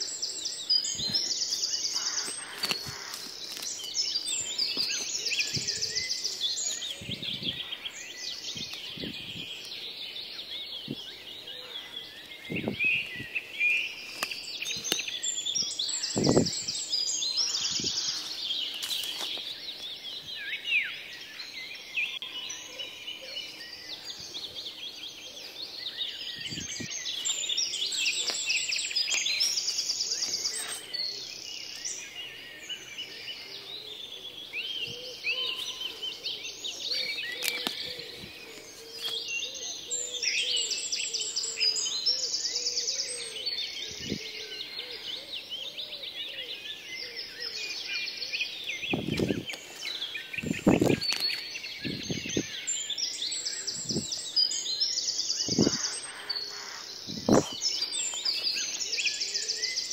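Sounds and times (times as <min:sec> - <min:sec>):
forest birds chirping: 0:00.0 - 0:59.9.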